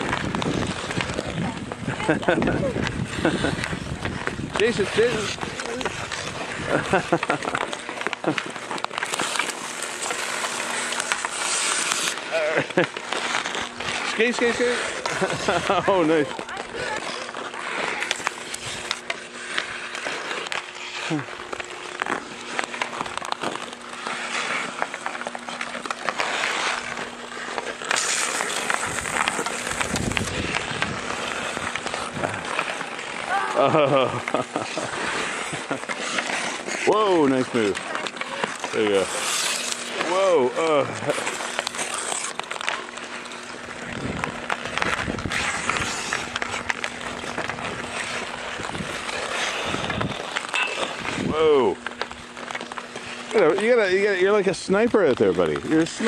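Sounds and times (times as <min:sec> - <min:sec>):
hockey sticks clacking puck: 0:00.0 - 0:56.0
skates scraping on ice: 0:00.0 - 0:56.0.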